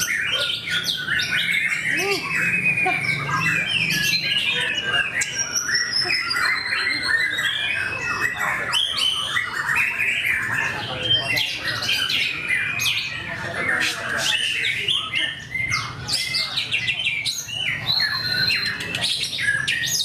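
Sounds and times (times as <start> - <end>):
bird singing varied song: 0.0 - 20.0.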